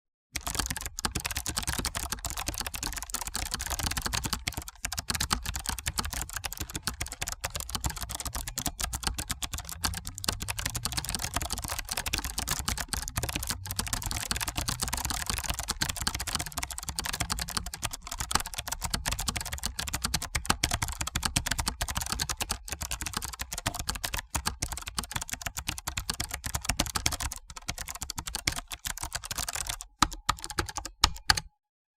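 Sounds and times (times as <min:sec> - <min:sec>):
fast typing on keyboard: 0:00.4 - 0:31.5.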